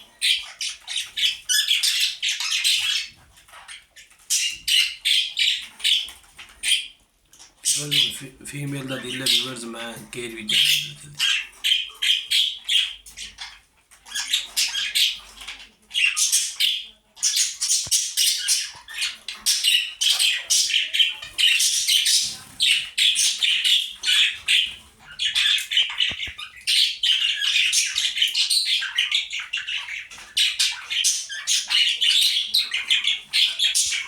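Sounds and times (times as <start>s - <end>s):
parrots chattering and squawking: 0.0s - 34.0s.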